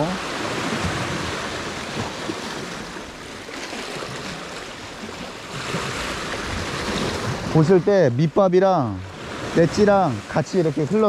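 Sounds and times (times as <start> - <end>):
waves washing on rocky shore: 0.0 - 11.0.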